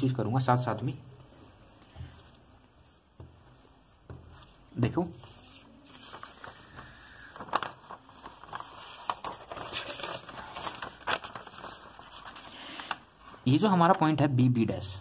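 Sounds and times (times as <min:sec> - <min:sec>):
paper rustling and crinkling: 0:01.6 - 0:14.0.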